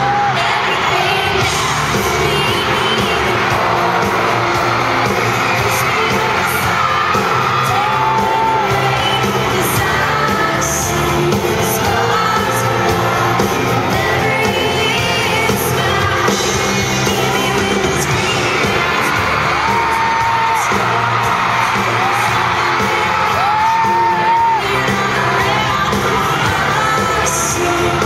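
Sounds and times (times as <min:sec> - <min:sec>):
woman singing into a microphone: 0:00.0 - 0:04.2, 0:05.1 - 0:28.0
audience whooping and screaming: 0:00.0 - 0:28.0
pop-rock band playing: 0:00.0 - 0:28.0.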